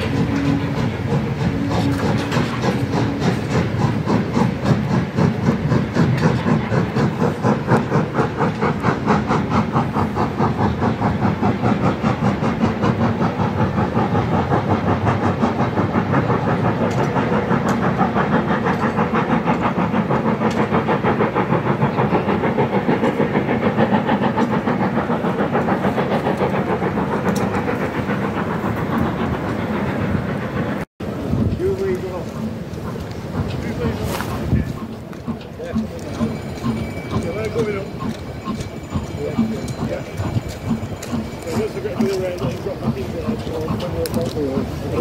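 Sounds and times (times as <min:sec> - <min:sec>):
steam hissing: 0:00.0 - 0:45.0
steam locomotive chuffing: 0:00.0 - 0:45.0.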